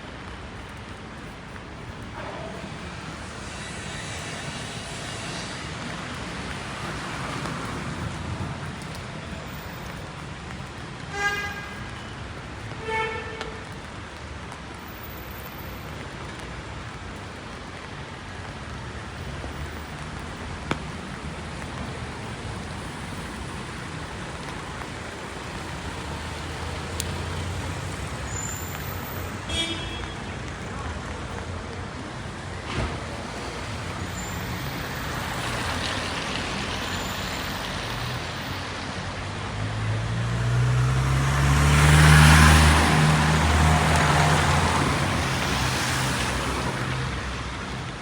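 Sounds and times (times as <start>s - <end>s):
rain falling on street: 0.0s - 48.0s
road traffic: 0.0s - 48.0s.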